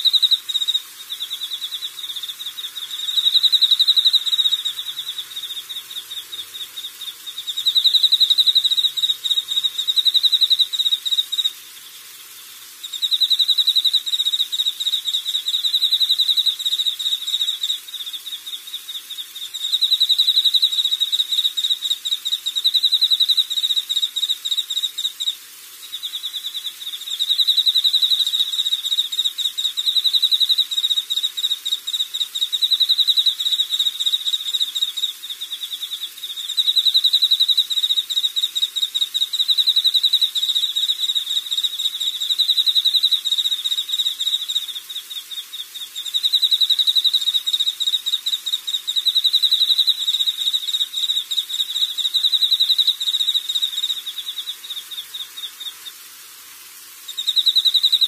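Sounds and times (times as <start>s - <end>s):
insect trilling: 0.0s - 58.0s.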